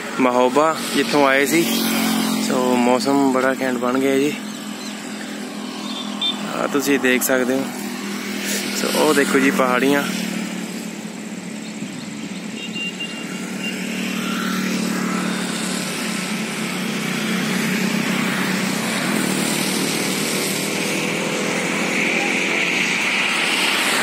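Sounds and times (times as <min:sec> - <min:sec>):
vehicle engine humming: 0:00.0 - 0:24.0
wind and road noise: 0:00.0 - 0:24.0.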